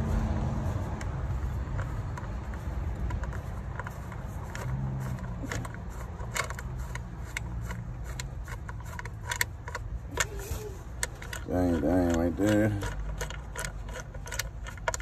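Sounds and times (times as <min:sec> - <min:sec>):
socket wrench clicking: 0:00.9 - 0:15.0.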